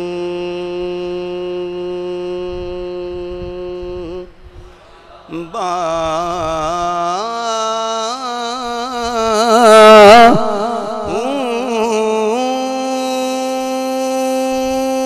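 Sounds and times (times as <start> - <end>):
man singing wordless ornamented line: 0.0 - 4.4, 5.2 - 15.0.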